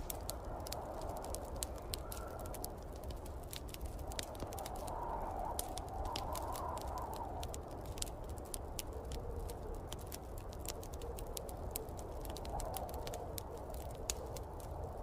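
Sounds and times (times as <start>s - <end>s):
faint howling wind: 0.0s - 15.0s
wood fire crackling and popping: 0.0s - 15.0s.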